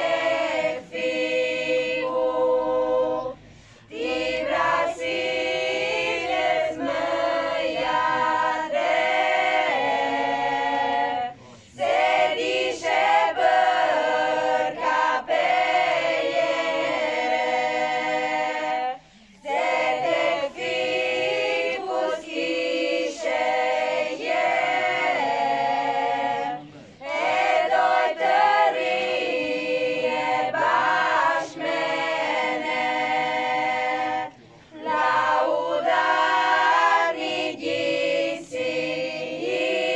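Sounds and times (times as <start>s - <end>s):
women's choir singing a cappella: 0.0s - 39.9s.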